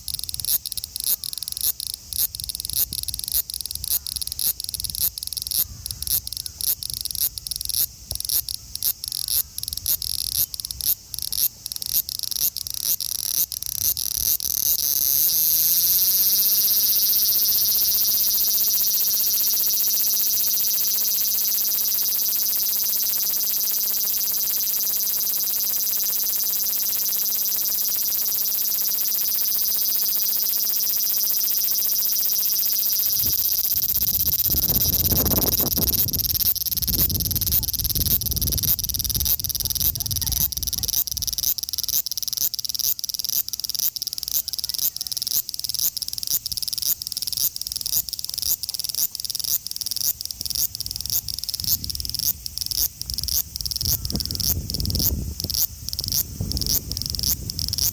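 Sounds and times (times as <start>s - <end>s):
cicada buzzing song: 0.0s - 57.9s.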